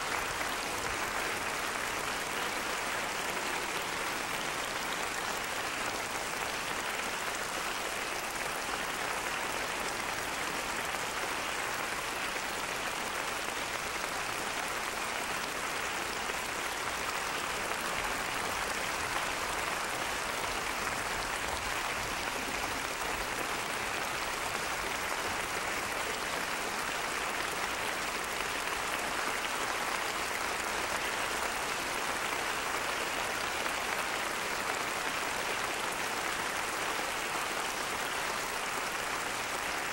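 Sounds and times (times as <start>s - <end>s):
audience applauding: 0.0s - 39.9s.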